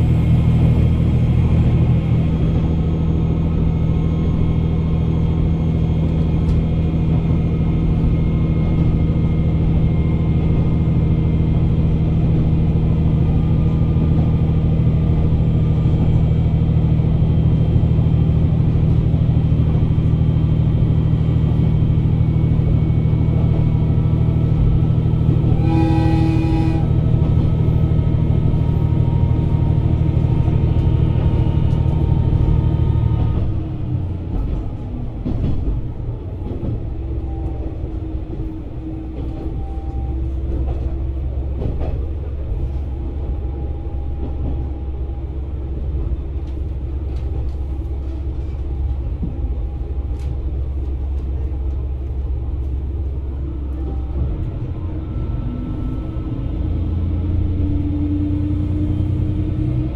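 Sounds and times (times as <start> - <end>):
railcar engine drone: 0.0 - 59.9
train wheels rumbling: 0.0 - 59.9.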